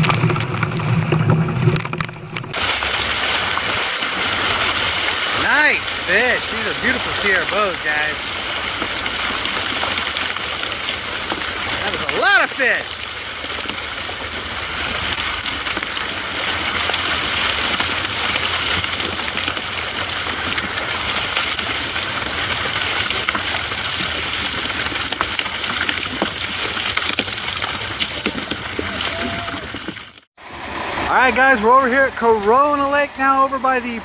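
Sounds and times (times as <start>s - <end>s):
water gushing and splashing: 0.0s - 32.1s.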